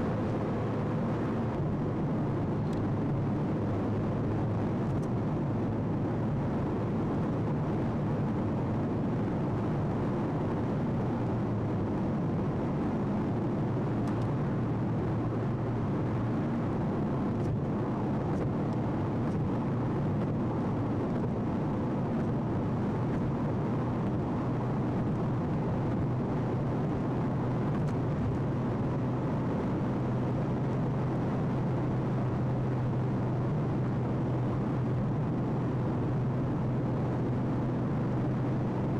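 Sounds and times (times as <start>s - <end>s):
engine and tyre noise: 0.0s - 38.9s.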